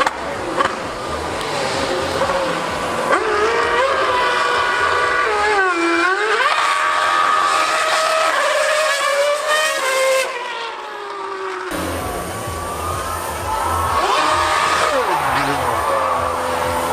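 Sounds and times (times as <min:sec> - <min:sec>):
racing car engine screaming: 0:00.0 - 0:16.9.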